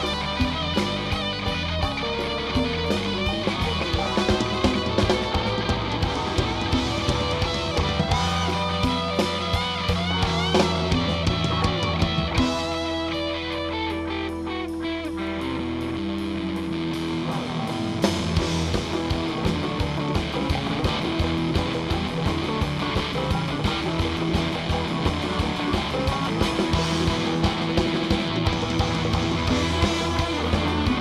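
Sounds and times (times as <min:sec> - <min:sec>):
drums and percussion: 0:00.0 - 0:31.0
electric guitars and bass: 0:00.0 - 0:31.0.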